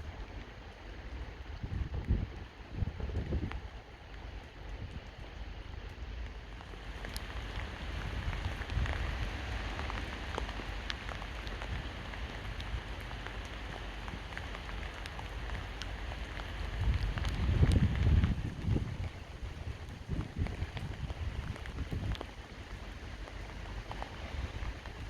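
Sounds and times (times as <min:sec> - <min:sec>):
rain on hard surfaces: 0:00.0 - 0:25.0.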